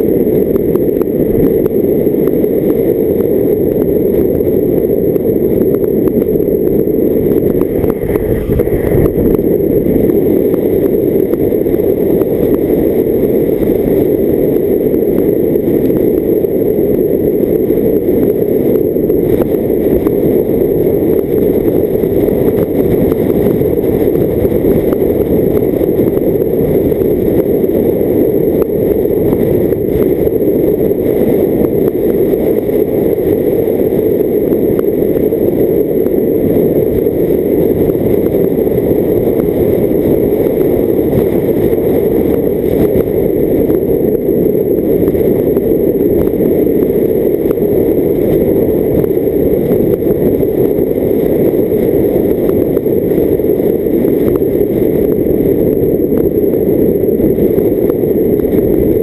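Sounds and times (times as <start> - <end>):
muffled wind and road noise: 0.0 - 59.0.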